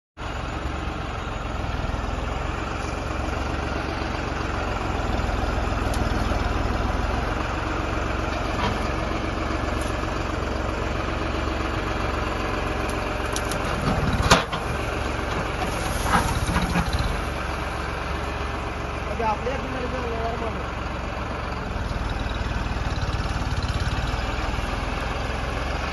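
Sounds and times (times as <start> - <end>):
heavy machine engine idling: 0.2 - 25.9.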